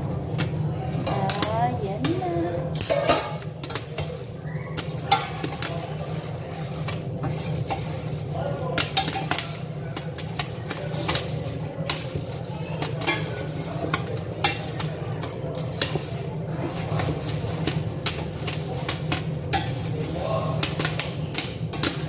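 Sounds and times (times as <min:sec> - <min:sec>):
spatula stirring popcorn in pot: 0:00.4 - 0:22.0.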